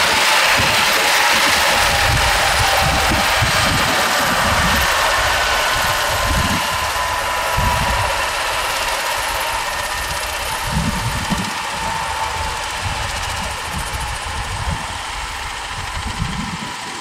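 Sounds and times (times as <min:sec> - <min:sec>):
wind rumble on microphone: 0:00.0 - 0:08.6, 0:09.3 - 0:17.0
helicopter engines whining: 0:00.0 - 0:17.0
helicopter rotor turning: 0:00.0 - 0:17.0.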